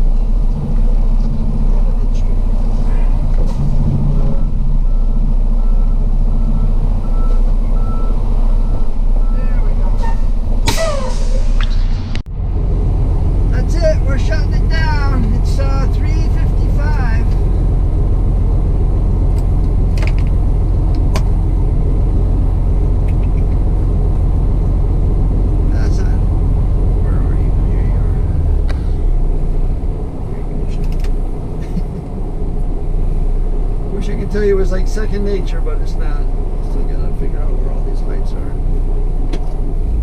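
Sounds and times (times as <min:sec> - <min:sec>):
truck diesel engine droning: 0:00.0 - 0:40.0.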